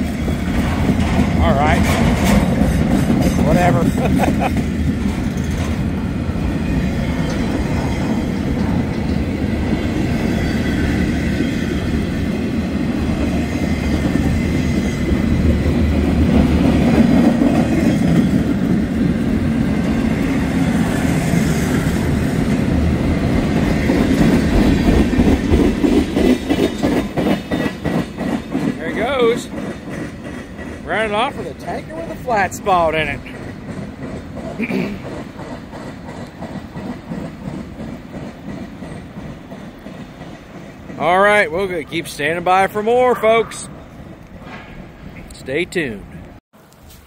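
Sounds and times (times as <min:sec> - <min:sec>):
train wheels rumbling on rail: 0:00.0 - 0:46.4.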